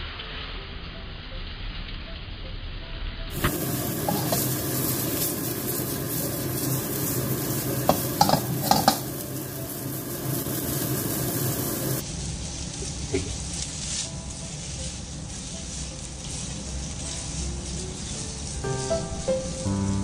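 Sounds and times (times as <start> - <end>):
egg sizzling in hot oil: 3.3 - 20.0.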